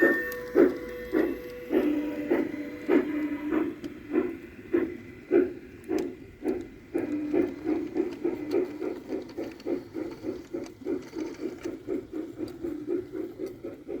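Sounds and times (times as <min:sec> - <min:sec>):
model steam locomotive running: 0:00.0 - 0:14.0.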